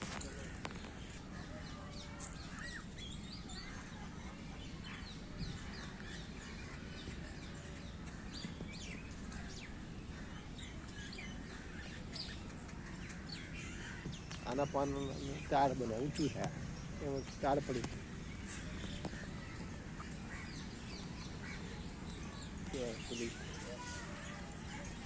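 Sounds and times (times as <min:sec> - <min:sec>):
low background hum: 0:00.0 - 0:25.0
small birds chirping: 0:00.0 - 0:25.0.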